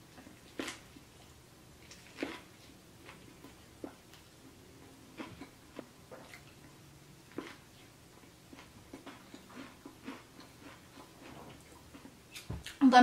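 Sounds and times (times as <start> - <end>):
person chewing wetly: 0.0 - 12.8.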